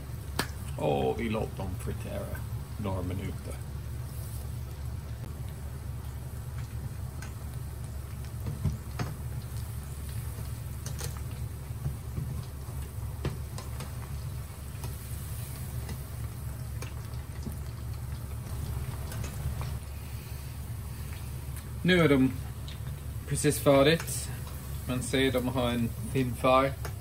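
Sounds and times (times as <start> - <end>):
chips frying in oil: 0.0 - 27.0
oil crackling and popping: 0.0 - 27.0
steady low hum: 0.0 - 27.0.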